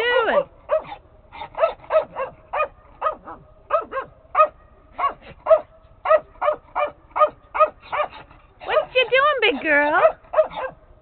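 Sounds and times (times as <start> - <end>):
dog barking rapidly: 0.2 - 10.8.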